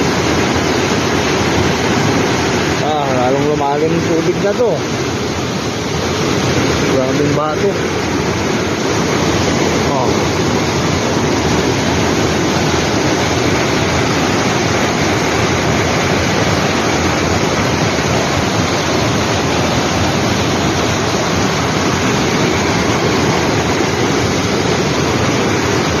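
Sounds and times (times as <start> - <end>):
floodwater rushing over rocks: 0.0 - 26.0.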